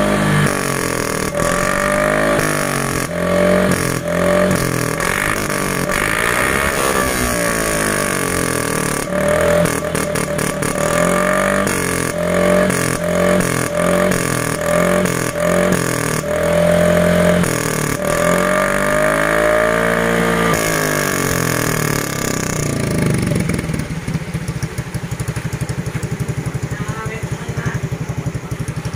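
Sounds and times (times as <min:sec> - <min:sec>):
scooter engine revving: 0:00.0 - 0:28.9.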